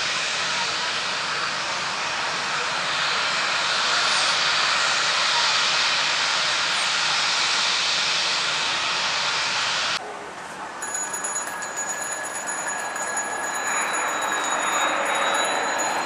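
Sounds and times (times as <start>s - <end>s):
jet airliner taking off: 0.0s - 10.0s, 11.8s - 16.0s.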